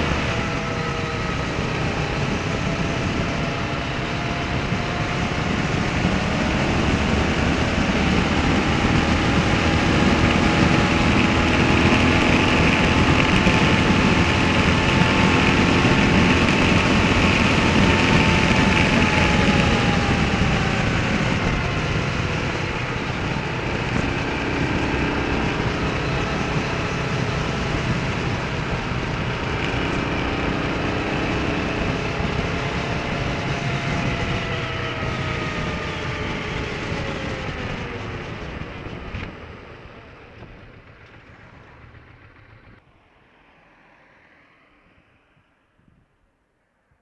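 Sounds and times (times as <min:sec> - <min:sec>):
motorcycle engine running: 0:00.0 - 0:42.8
wind rush over microphone: 0:00.0 - 0:47.0.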